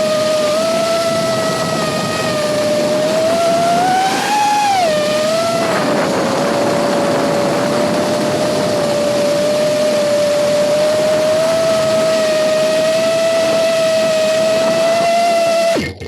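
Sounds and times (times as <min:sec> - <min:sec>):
propeller wash hiss: 0:00.0 - 0:15.7
quadcopter motors whining: 0:00.0 - 0:16.0.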